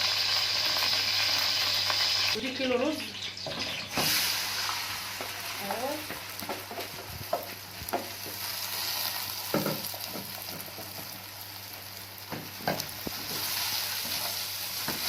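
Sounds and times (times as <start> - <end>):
rice sizzling in a pot: 0.0 - 2.4, 3.9 - 15.0.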